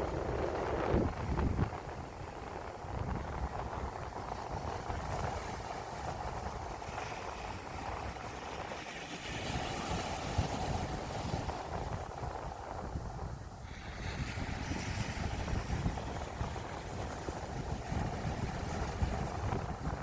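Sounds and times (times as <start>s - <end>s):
sea waves washing onto shore: 0.0s - 20.0s
wind buffeting microphone: 0.0s - 20.0s.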